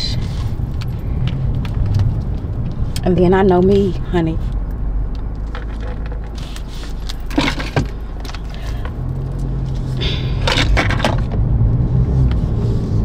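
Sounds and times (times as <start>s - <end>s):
car rumble: 0.0s - 13.0s.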